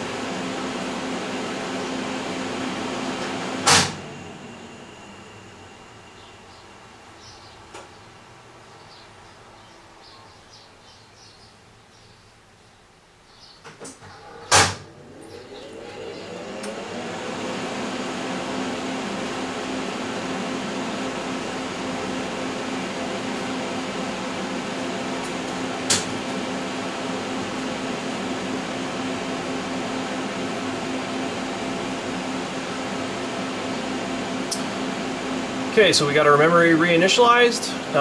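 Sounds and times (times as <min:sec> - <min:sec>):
machine fan whirring: 0:00.0 - 0:08.7, 0:13.6 - 0:38.0.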